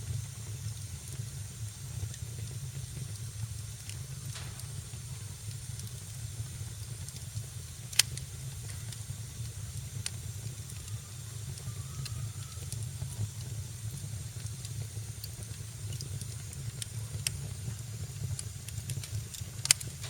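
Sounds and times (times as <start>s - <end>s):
wood fire crackling: 0.0s - 20.0s
fire pop: 0.4s - 11.7s, 12.6s - 20.0s.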